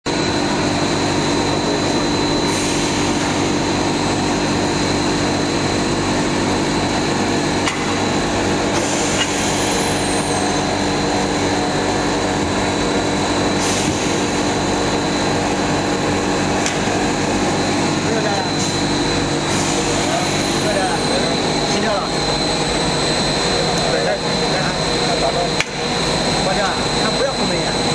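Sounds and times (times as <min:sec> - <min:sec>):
high machine whine: 0:00.0 - 0:27.9
machine motor hum: 0:00.1 - 0:27.9.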